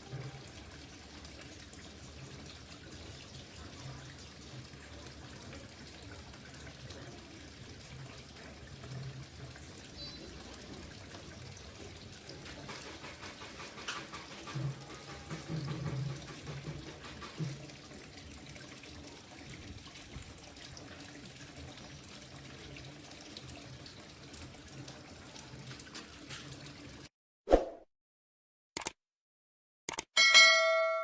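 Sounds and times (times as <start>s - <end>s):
water splashing in a fountain: 0.0s - 27.1s.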